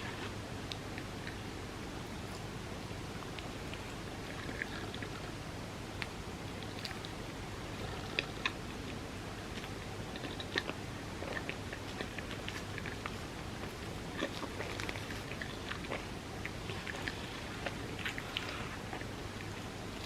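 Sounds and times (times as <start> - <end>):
steady low hum: 0.0 - 20.0
wet mouth clicks chewing: 0.7 - 1.5, 3.2 - 5.4, 6.0 - 20.0.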